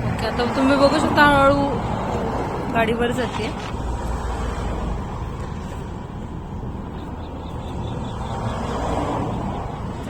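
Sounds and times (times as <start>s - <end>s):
highway traffic rumble: 0.0s - 10.0s.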